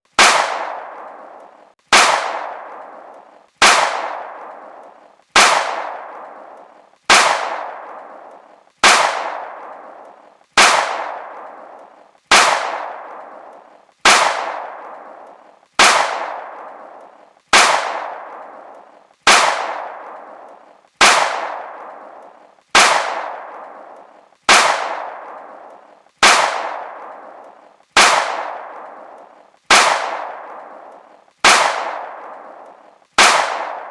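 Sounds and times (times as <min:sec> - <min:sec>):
gunshots with echoing tail: 0:00.1 - 0:33.9.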